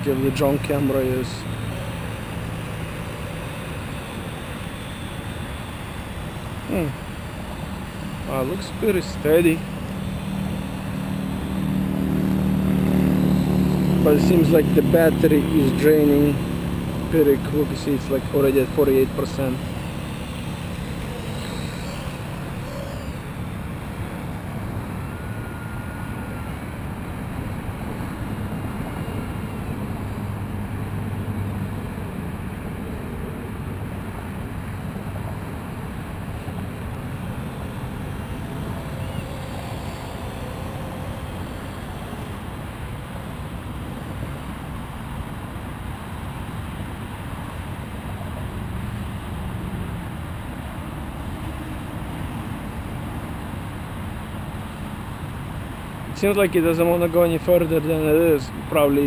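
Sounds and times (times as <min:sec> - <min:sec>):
quadcopter rotors buzzing: 0:00.0 - 0:59.0.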